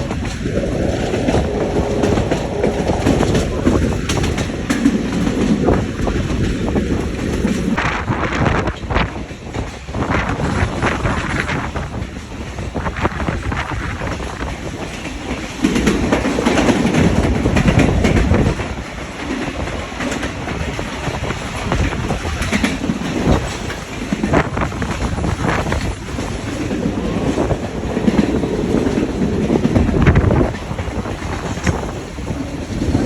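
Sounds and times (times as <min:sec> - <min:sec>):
train low rumble: 0:00.0 - 0:33.0
train wheels clicking over rails: 0:00.0 - 0:33.0.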